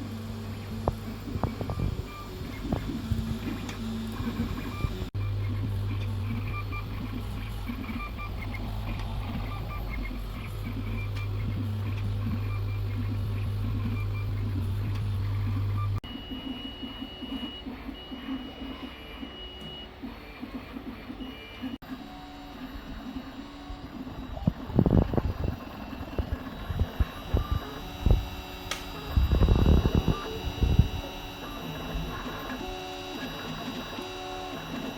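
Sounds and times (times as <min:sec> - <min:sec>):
stepper motors whining: 0:00.0 - 0:17.6, 0:21.4 - 0:34.9
printer low hum: 0:00.0 - 0:34.9.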